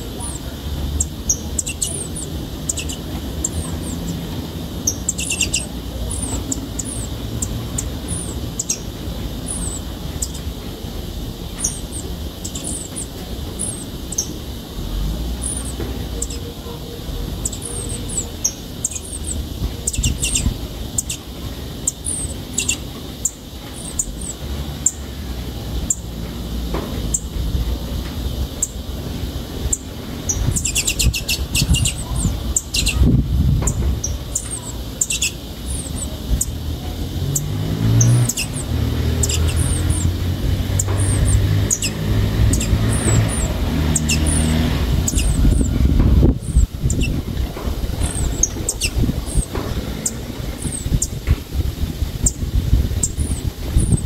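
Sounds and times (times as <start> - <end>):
bird chick chirping: 0.0 - 14.6, 15.3 - 25.0, 29.6 - 36.6, 37.2 - 45.8, 46.5 - 47.2, 47.9 - 51.2.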